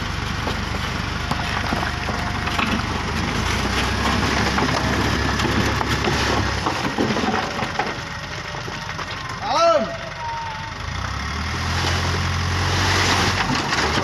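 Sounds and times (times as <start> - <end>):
gravel scraping and rattling out: 0.0 - 9.4, 11.5 - 14.0
truck engine drone: 0.0 - 14.0.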